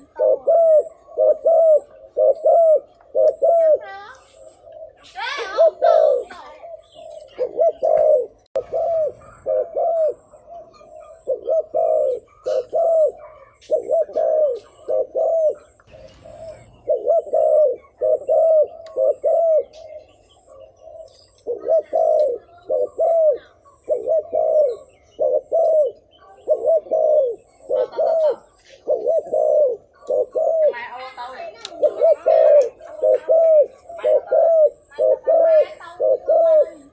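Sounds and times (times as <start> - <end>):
dove cooing: 0.0 - 36.9.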